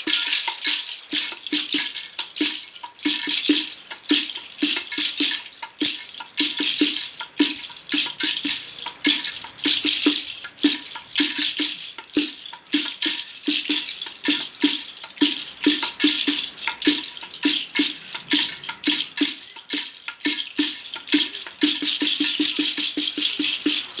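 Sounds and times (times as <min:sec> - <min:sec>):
hand percussion shaker rattle: 0:00.0 - 0:24.0.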